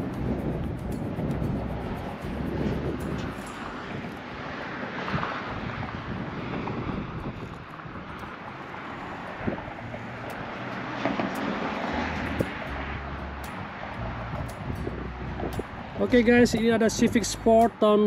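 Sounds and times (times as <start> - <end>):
wind on microphone: 0.0 - 17.3
passing traffic: 0.0 - 18.0.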